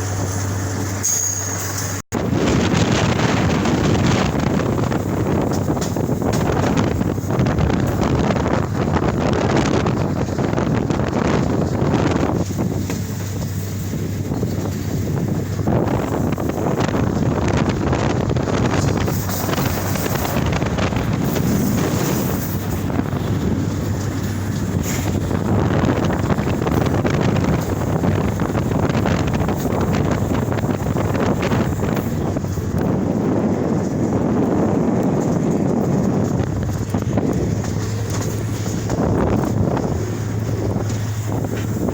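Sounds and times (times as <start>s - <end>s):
wind buffeting microphone: 1.9s - 41.9s.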